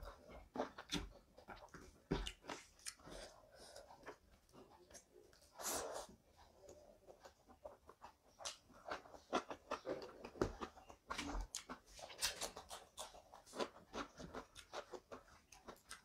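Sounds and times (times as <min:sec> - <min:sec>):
wet chewing and lip smacking: 0:00.1 - 0:05.5, 0:06.6 - 0:16.0.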